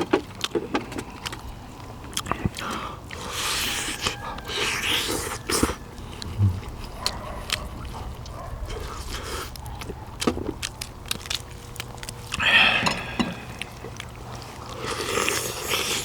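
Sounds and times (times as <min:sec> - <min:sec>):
chewing meat off bones: 0:00.0 - 0:16.0.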